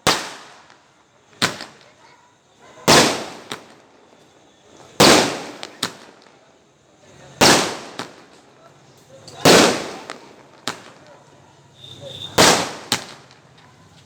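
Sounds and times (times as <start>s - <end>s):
firecrackers banging: 0.0s - 14.0s.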